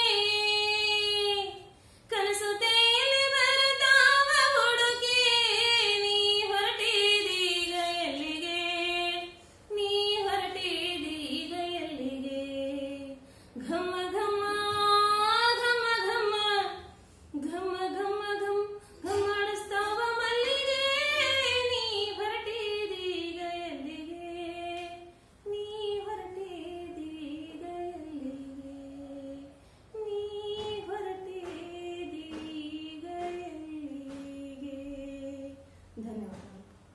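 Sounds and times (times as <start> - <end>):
woman singing unaccompanied: 0.0 - 36.7.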